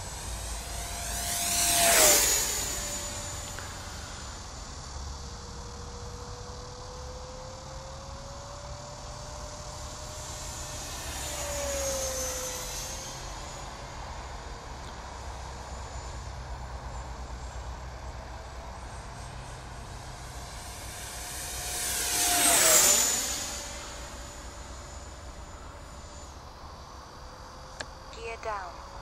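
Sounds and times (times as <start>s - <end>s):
electric jet fan whining past: 0.0s - 28.1s.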